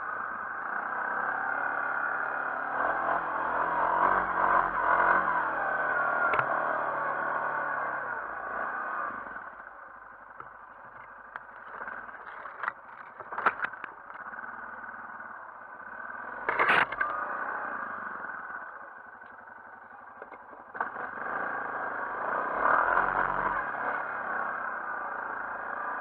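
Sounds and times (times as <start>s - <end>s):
quad engine revving: 0.0s - 18.8s, 20.2s - 26.0s
branches scraping vehicle: 0.9s - 26.0s.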